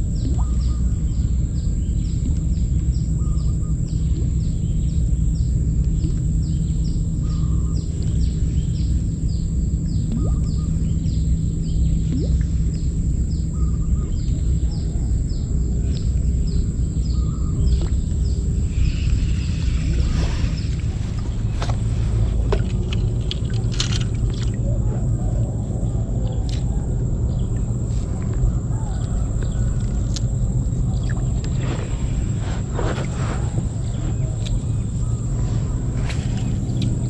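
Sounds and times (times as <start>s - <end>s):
steady low rumble: 0.0s - 37.0s.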